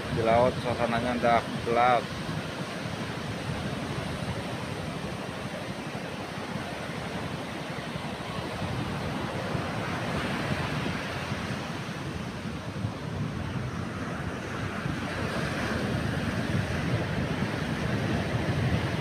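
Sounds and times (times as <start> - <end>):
strong wind: 0.0 - 19.0
waves breaking: 0.0 - 19.0
wind buffeting microphone: 0.0 - 19.0.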